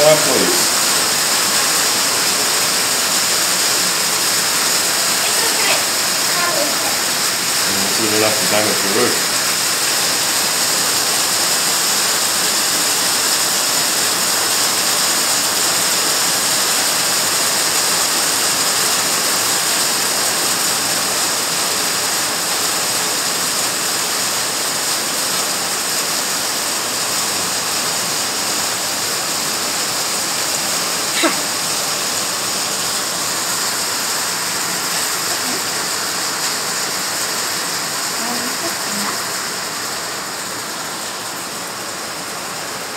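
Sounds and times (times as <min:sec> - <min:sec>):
hail and rain pelting: 0:00.0 - 0:42.9.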